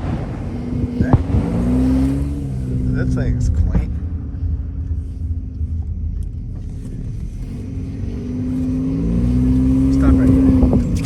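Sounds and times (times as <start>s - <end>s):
car engine from inside cabin: 0.0s - 11.0s
road rumble: 0.0s - 11.0s.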